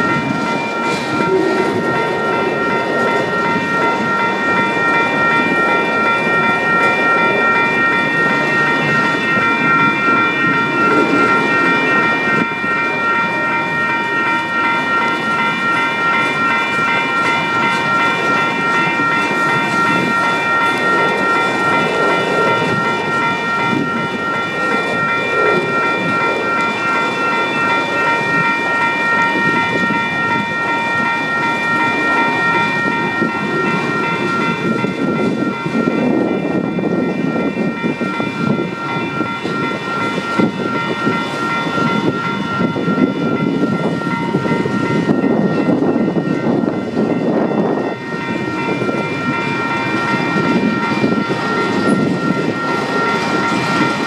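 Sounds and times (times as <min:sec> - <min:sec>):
freight cars rumbling on rails: 0:00.0 - 0:54.0
high-pitched ringing: 0:00.0 - 0:54.0.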